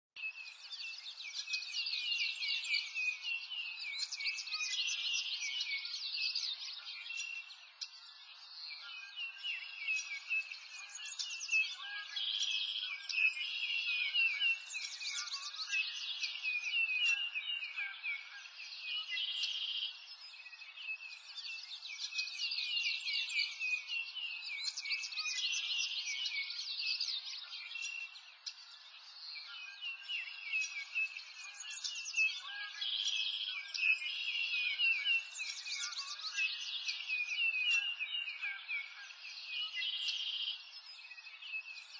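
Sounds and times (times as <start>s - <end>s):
small birds chirping: 0.2s - 41.9s.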